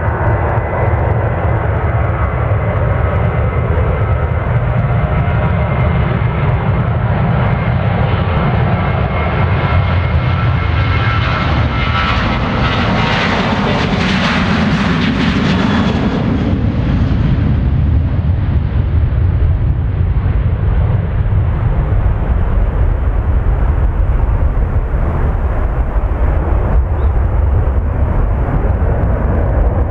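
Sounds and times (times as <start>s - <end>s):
jet engines at takeoff thrust: 0.0s - 29.9s.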